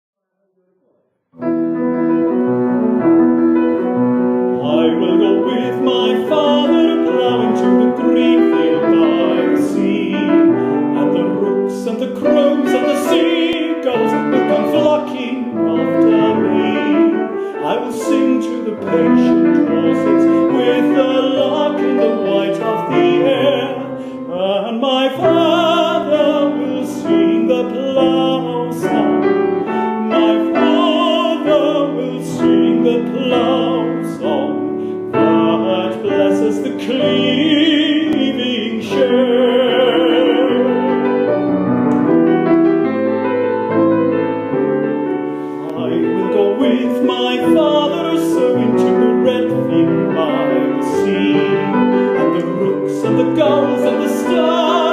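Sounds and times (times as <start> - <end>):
piano accompaniment: 1.4 - 54.9
man singing operatically: 4.4 - 41.3, 45.6 - 54.9.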